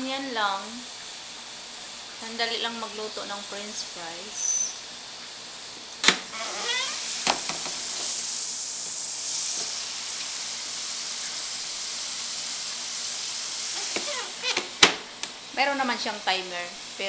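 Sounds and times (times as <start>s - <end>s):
fries sizzling in deep fryer: 0.0s - 17.0s.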